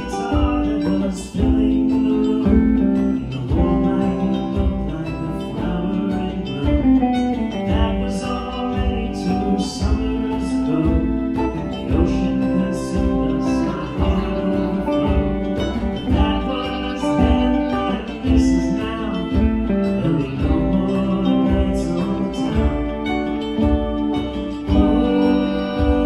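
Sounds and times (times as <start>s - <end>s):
hand drums: 0.0s - 26.0s
live band playing: 0.0s - 26.0s.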